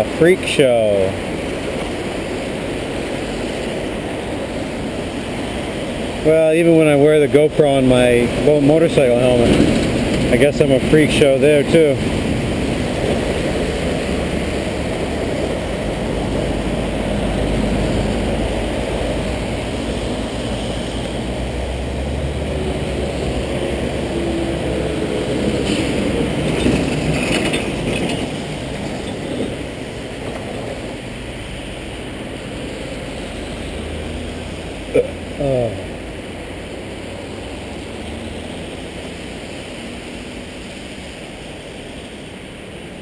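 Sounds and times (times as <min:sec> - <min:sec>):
car engines rumbling: 0:00.0 - 0:43.0
tyres hissing on wet road: 0:00.0 - 0:43.0.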